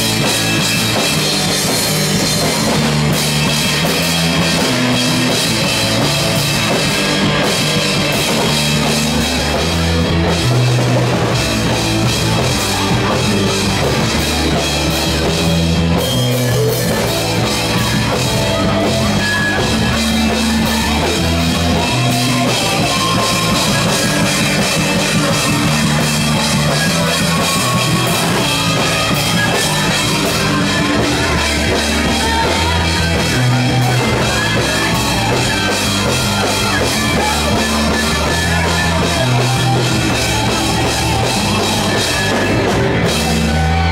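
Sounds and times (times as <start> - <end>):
bass line: 0.0 - 43.9
drum kit: 0.0 - 43.9
guitar: 0.0 - 43.9.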